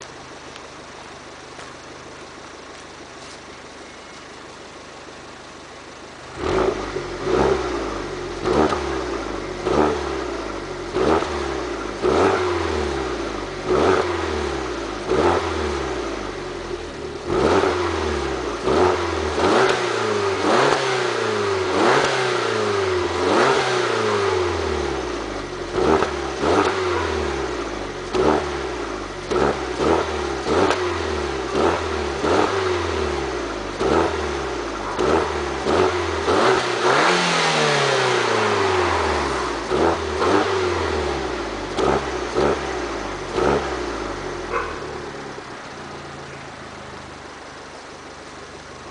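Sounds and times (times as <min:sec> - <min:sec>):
car engine idling: 0:00.0 - 0:48.9
car engine revving: 0:05.0 - 0:48.9.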